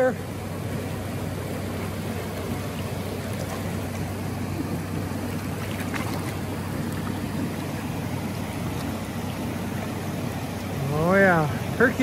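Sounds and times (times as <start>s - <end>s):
river rushing over rocks: 0.0s - 12.0s
fish splashing at surface: 1.1s - 10.8s.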